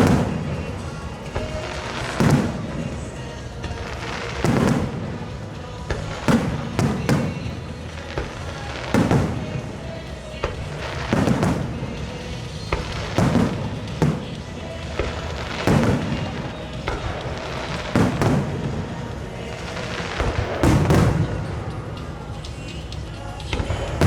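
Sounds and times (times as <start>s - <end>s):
fireworks bursting with crackling: 0.0s - 24.0s
music playing: 0.0s - 24.0s.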